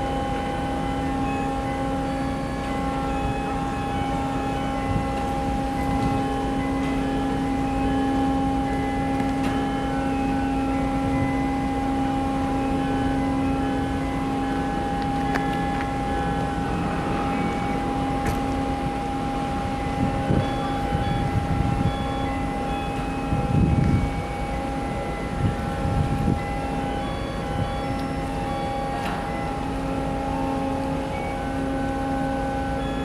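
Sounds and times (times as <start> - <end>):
ship machinery drone: 0.0 - 33.0.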